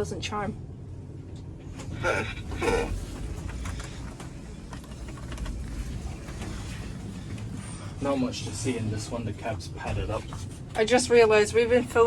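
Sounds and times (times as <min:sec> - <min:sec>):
lift car rumble: 0:01.6 - 0:12.0.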